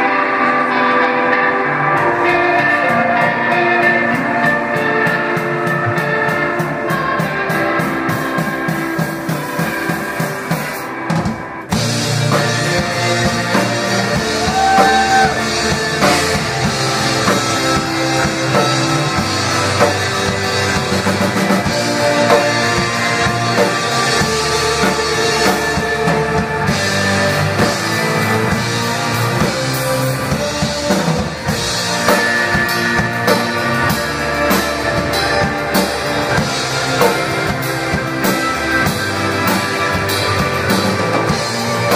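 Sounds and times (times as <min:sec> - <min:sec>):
bass guitar: 0:00.0 - 0:41.9
drum kit: 0:00.0 - 0:41.9
electric guitars: 0:00.0 - 0:41.9.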